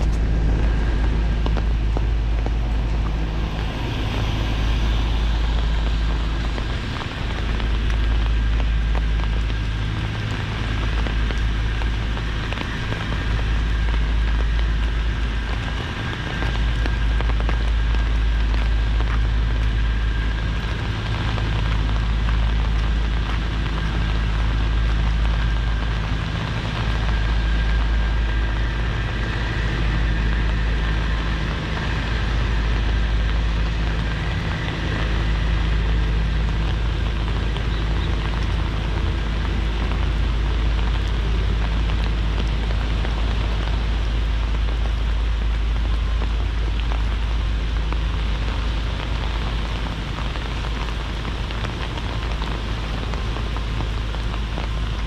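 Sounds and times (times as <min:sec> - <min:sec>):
deep rumble: 0:00.0 - 0:55.0
heavy rain on hard surfaces: 0:00.0 - 0:55.0.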